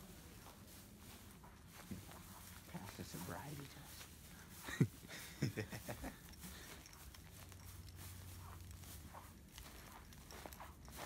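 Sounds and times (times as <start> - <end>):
footsteps crunching on hay: 0.0 - 11.0.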